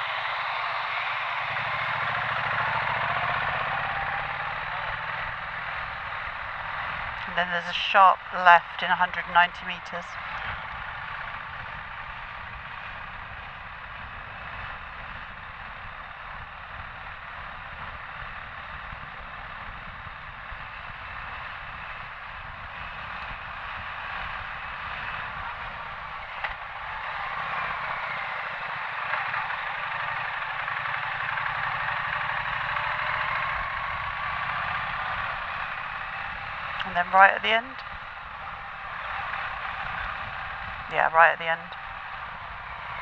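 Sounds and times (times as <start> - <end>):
motorcycle engine riding: 0.0 - 7.3, 10.1 - 40.9.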